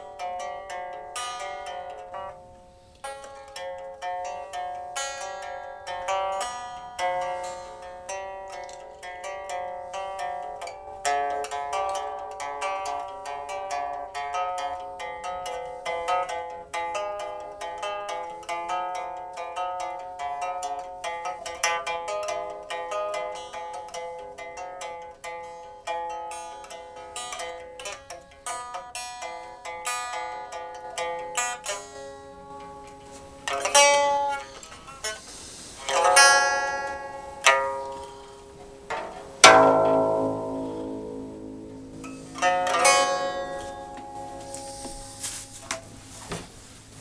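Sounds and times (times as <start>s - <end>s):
plucked zither music: 0.0s - 47.0s.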